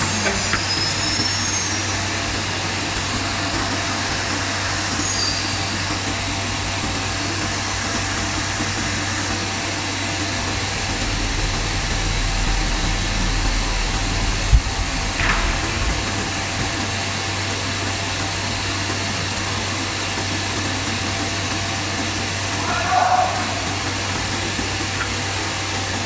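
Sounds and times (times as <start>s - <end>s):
cnc router machinery running: 0.0s - 26.0s.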